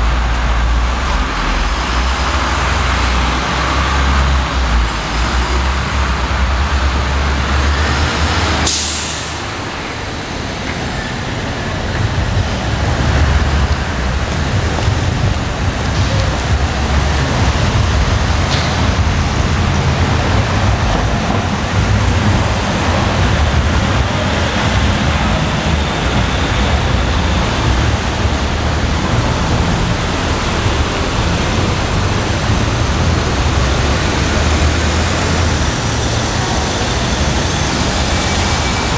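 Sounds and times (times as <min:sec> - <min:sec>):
broad rushing noise: 0:00.0 - 0:38.9
subway train rumbling: 0:00.0 - 0:38.9.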